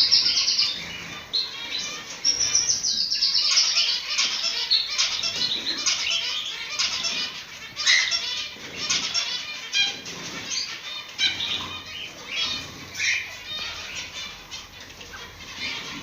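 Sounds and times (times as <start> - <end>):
cockatiels chirping and whistling: 0.0 - 16.0.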